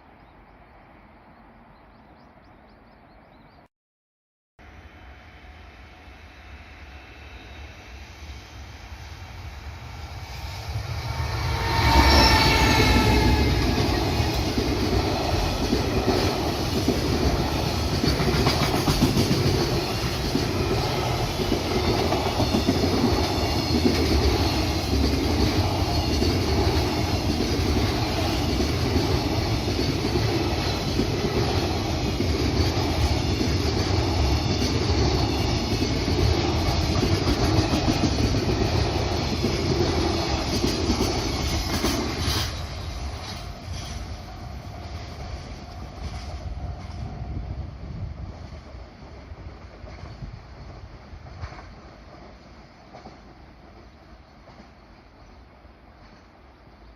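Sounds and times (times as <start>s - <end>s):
freight train passing: 4.6s - 56.9s.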